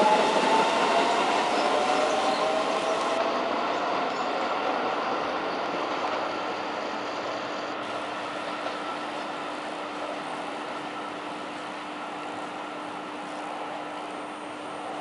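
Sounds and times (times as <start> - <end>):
electric train pulling away: 0.0 - 15.0.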